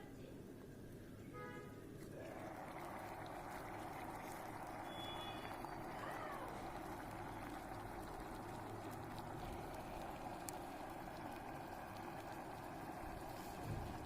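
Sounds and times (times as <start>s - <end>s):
kettle heating water: 0.0s - 14.0s.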